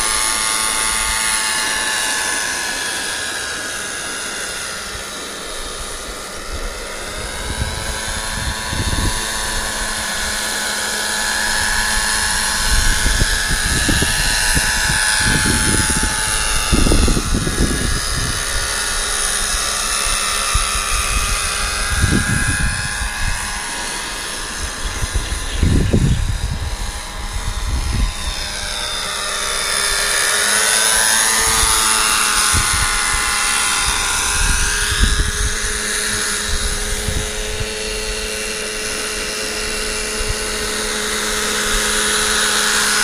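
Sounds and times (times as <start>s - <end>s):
low rumbling buffets: 0.0s - 43.0s
model helicopter whining: 0.0s - 43.0s.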